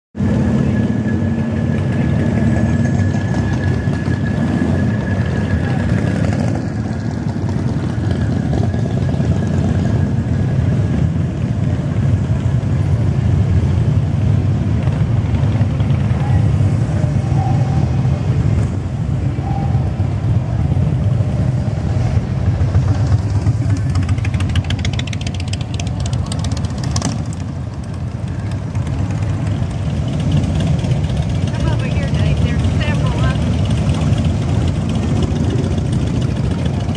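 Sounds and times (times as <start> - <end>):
motorcycles rumbling past: 0.2 - 36.9
passing car traffic: 0.2 - 36.9.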